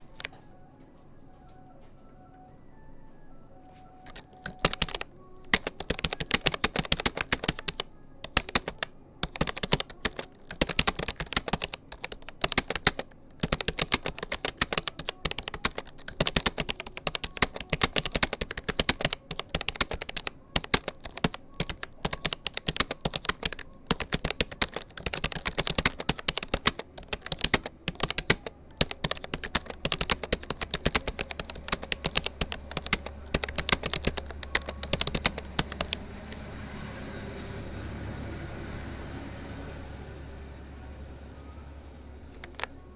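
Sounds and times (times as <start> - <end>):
keyboard typing clicks: 0.0 - 0.7, 1.3 - 36.4, 42.3 - 42.9.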